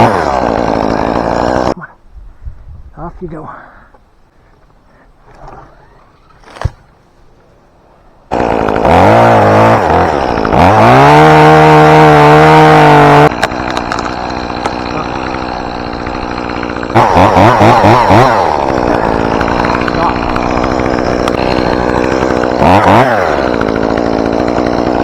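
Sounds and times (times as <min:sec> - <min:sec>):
chainsaw engine revving: 0:00.0 - 0:01.8, 0:05.3 - 0:06.9, 0:08.3 - 0:25.0.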